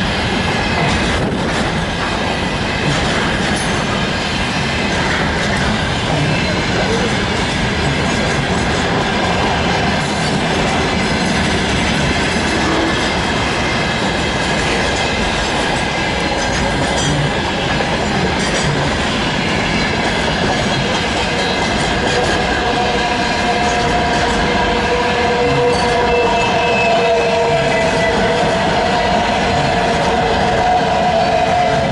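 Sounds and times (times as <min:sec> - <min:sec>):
train wheels clattering on rails: 0:00.0 - 0:31.9.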